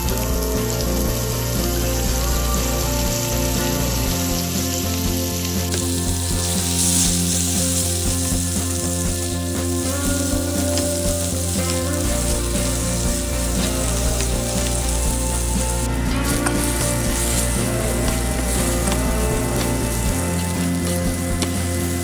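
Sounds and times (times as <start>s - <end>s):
background music: 0.0s - 22.0s
potatoes sizzling in oil: 0.0s - 22.0s.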